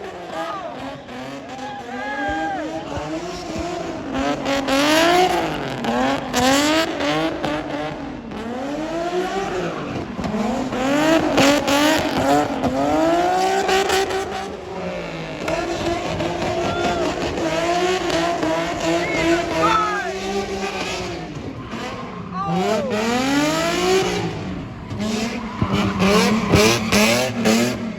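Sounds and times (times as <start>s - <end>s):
car engine revving hard: 0.0s - 27.9s.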